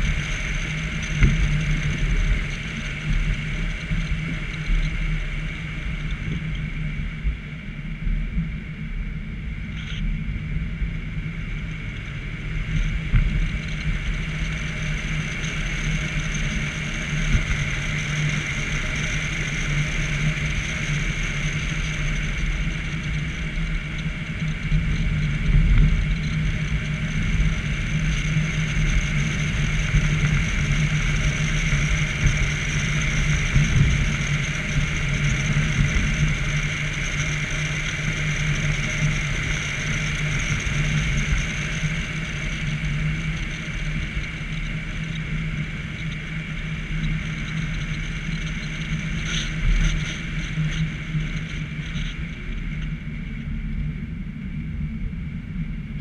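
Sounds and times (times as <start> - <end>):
faint steady whine: 0.0 - 56.0
road and wind noise rumble: 0.0 - 56.0.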